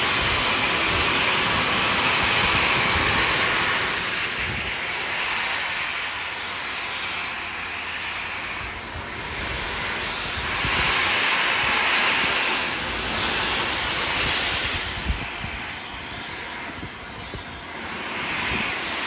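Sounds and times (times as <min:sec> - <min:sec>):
wind buffeting microphone: 0:00.0 - 0:05.9, 0:08.6 - 0:19.0
steam locomotive hissing: 0:00.0 - 0:19.0.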